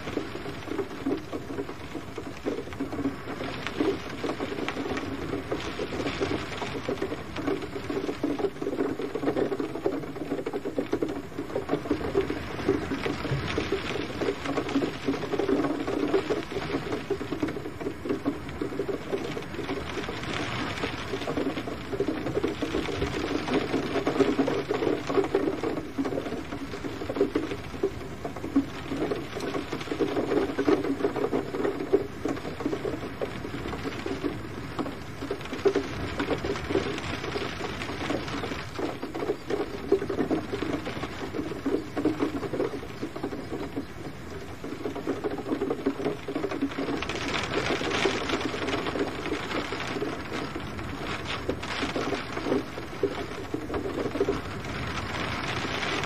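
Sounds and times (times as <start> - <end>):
gentle rain: 0.0 - 56.0.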